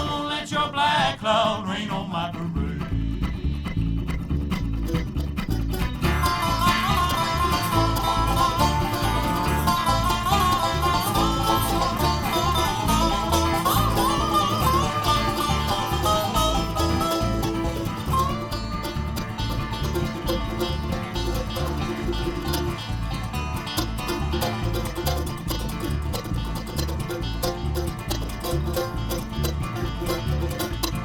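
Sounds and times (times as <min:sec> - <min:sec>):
bluegrass band playing: 0:00.0 - 0:31.0.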